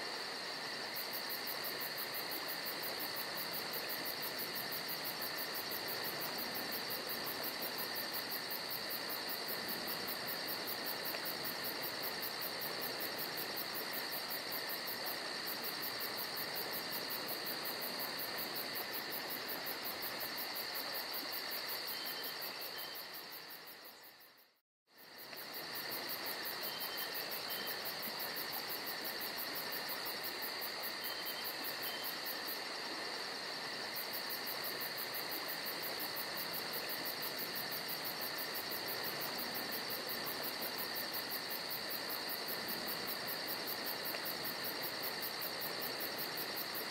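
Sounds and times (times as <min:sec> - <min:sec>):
insect chorus drone: 0:00.0 - 0:46.9.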